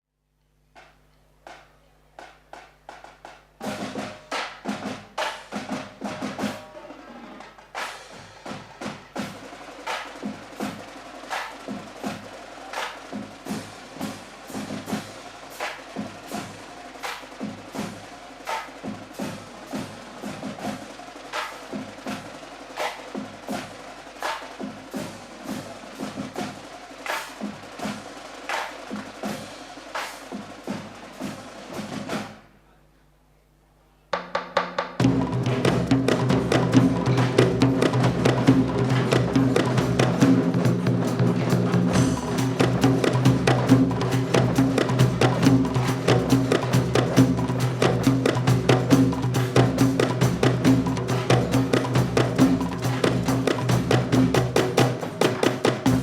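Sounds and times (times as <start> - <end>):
drum ensemble playing: 0.6 - 32.6, 34.2 - 56.0.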